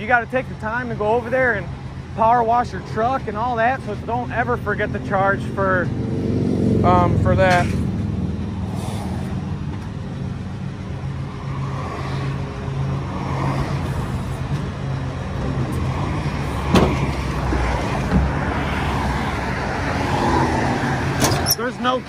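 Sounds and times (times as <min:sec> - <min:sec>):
highway traffic passing: 0:00.0 - 0:22.0.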